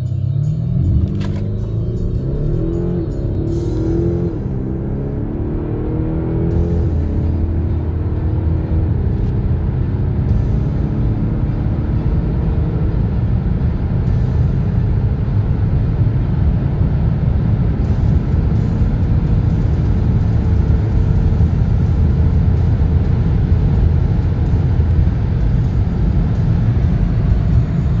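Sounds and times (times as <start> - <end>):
car engine and road drone: 0.0 - 28.0.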